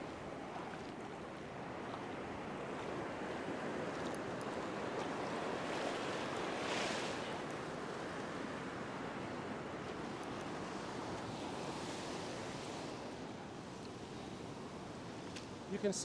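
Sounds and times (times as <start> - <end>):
ocean surf breaking on sand: 0.0 - 16.0.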